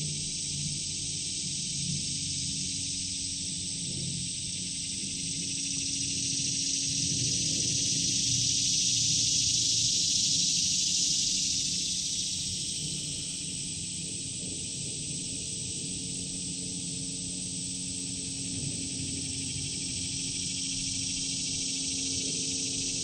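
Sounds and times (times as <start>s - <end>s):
insects buzzing: 0.1s - 23.0s.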